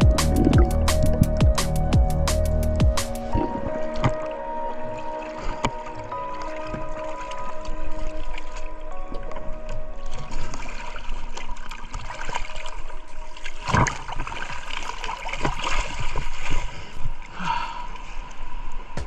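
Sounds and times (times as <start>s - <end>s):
water splashing and gurgling: 0.0s - 19.0s.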